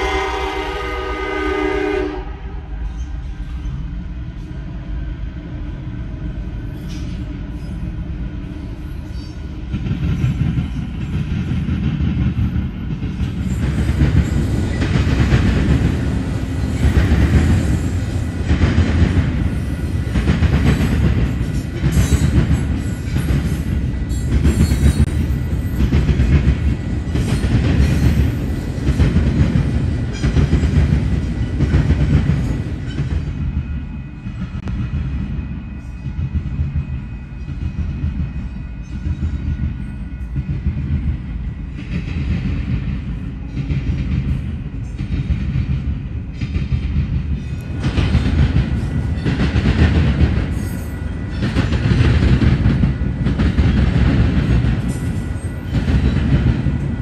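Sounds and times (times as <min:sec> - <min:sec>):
freight train rumbling: 0:00.0 - 0:57.0
train wheels clickety-clack: 0:06.6 - 0:57.0.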